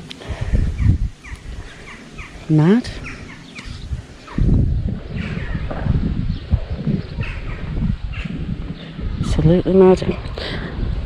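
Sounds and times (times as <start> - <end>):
birds chirping: 0.0 - 10.3
low rumble on microphone: 0.0 - 11.0.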